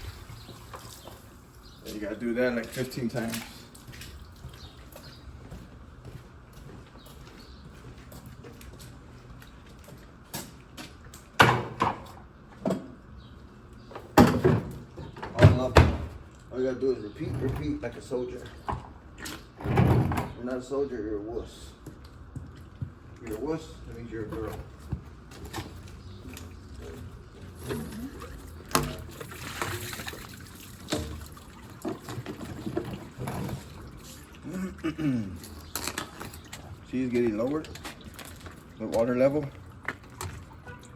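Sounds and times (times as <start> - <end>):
water sloshing and trickling: 0.0 - 5.9, 6.7 - 12.9, 13.7 - 20.2, 21.8 - 40.9.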